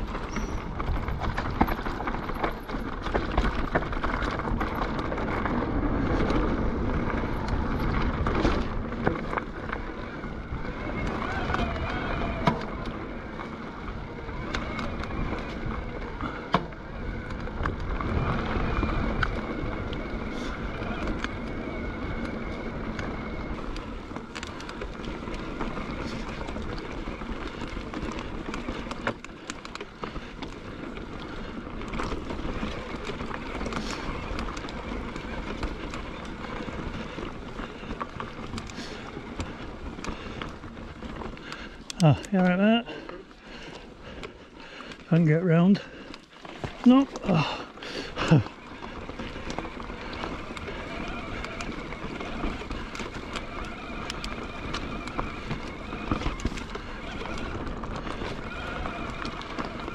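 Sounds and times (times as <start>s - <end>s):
bike rattling: 0.0s - 59.9s
tyres rolling over gravel: 0.0s - 59.9s.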